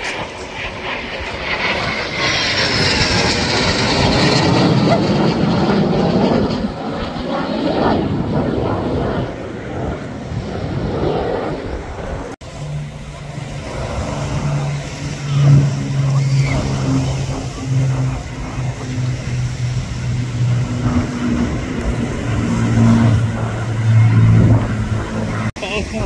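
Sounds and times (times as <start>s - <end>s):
aircraft engine roar: 0.0s - 26.0s.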